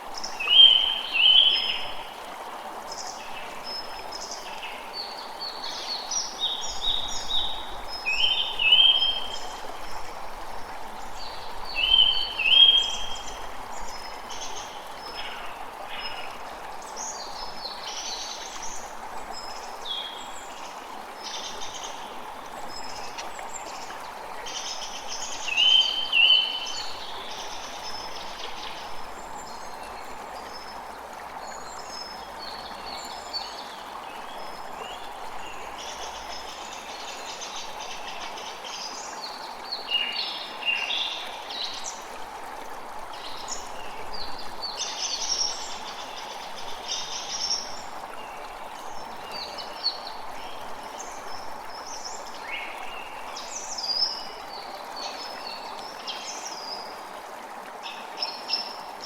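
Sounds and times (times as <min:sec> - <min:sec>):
creek running: 0:00.0 - 0:59.0.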